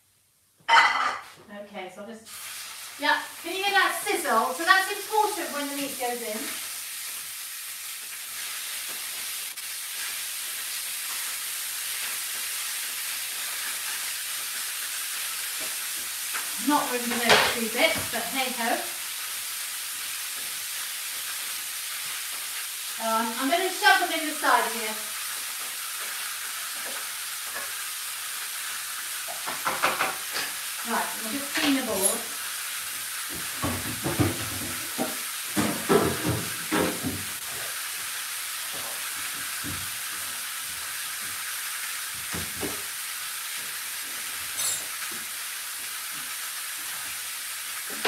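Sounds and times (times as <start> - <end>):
meat sizzling in a frying pan: 2.3 - 48.0.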